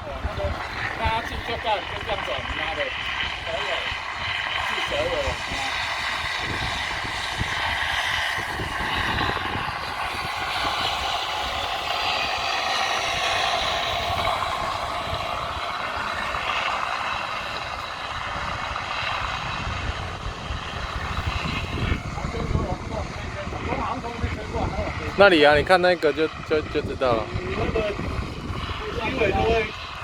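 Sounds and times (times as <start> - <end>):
model plane engine drone: 0.0 - 30.0
wind buffeting microphone: 0.0 - 30.0.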